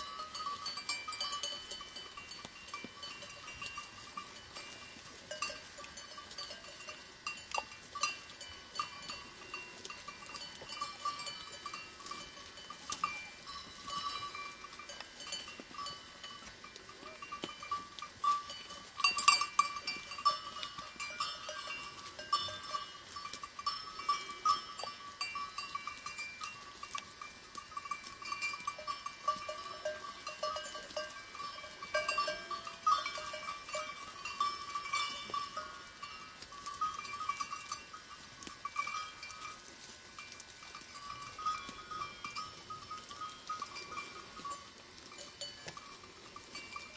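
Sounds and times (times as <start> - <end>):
animal bells clinking: 0.0 - 46.9.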